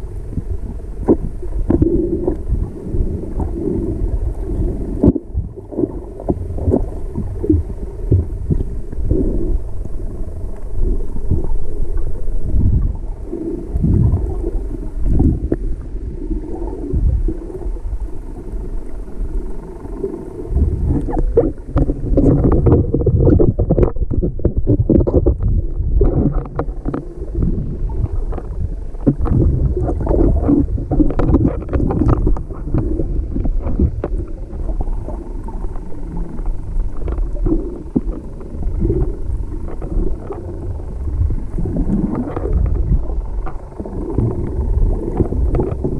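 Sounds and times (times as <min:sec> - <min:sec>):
muffled underwater rumble: 0:00.0 - 0:45.9.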